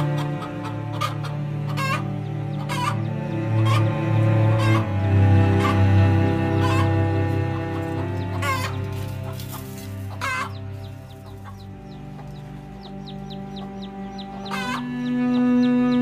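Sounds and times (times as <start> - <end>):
background music with held notes: 0.0 - 16.0
chickens clucking: 0.0 - 16.0.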